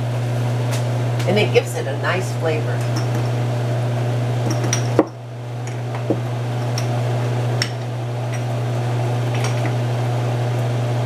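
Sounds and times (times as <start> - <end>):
kitchen appliance motor humming: 0.0 - 11.0.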